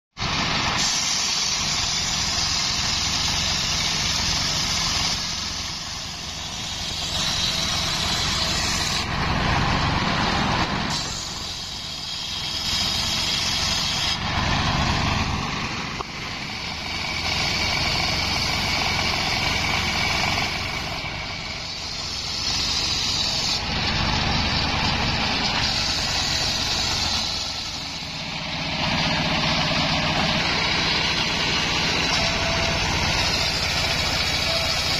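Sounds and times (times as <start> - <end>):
engine running: 0.1 - 34.9
circular saw blade whining in wood: 0.2 - 34.9.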